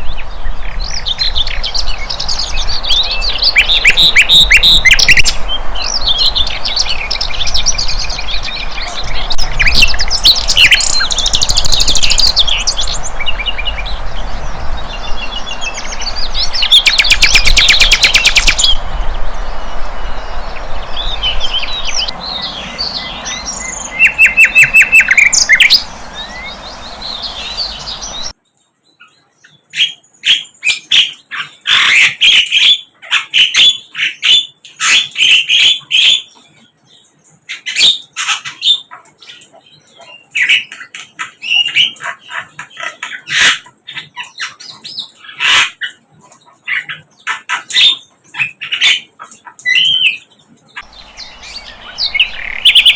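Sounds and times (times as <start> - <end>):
bird chirps and trills: 0.0 - 52.9.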